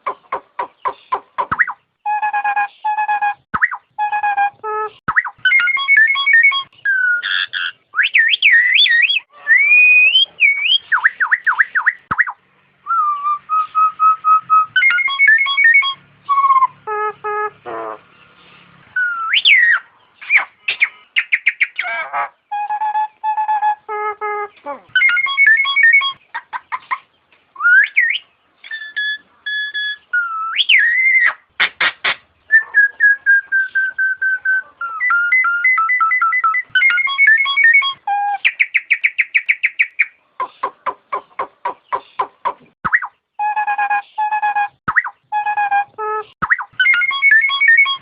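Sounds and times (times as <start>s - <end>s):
myna whistling calls: 0.0s - 18.2s, 19.0s - 48.0s.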